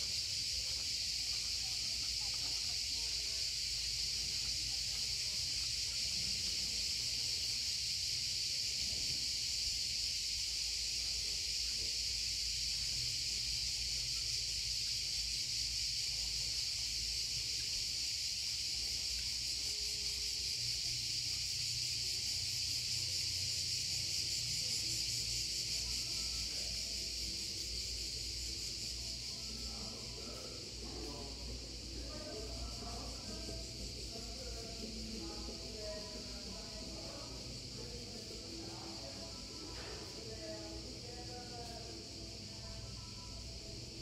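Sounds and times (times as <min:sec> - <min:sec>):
cicadas droning: 0:00.0 - 0:44.0.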